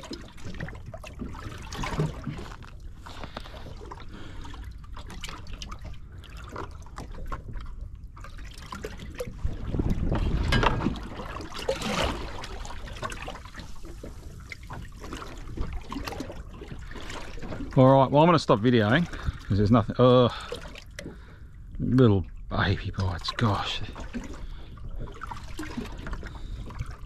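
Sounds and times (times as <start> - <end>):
waves slapping against boat hull: 0.0 - 27.0.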